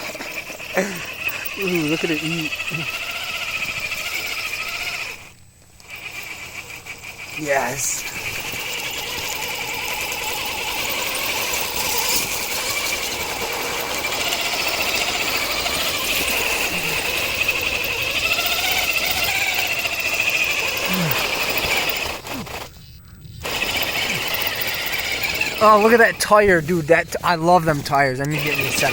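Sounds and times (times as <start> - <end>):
electric motor and gears whining: 0.0 - 28.9.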